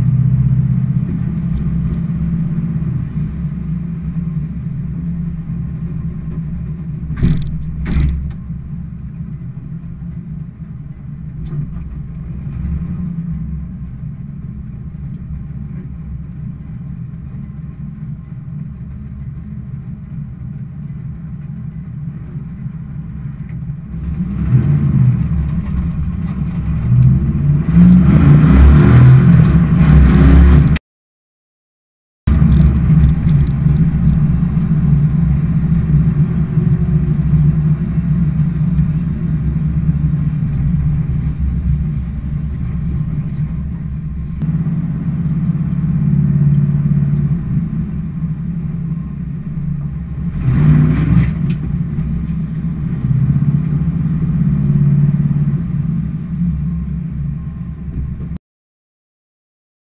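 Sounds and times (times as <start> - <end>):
car engine rumble: 0.0 - 30.8, 32.3 - 58.4.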